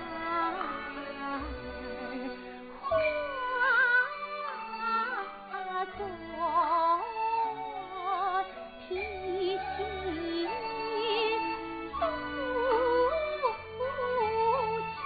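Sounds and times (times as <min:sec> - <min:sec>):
woman singing opera: 0:00.0 - 0:15.0.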